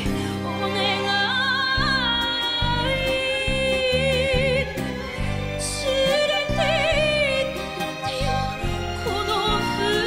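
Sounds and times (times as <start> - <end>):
woman singing with vibrato: 0.0 - 10.0.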